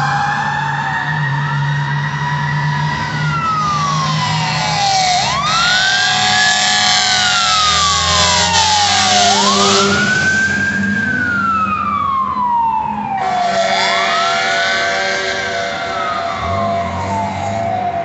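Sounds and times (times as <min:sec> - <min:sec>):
fire engine siren wailing: 0:00.0 - 0:18.0
low hum of traffic: 0:00.0 - 0:18.0.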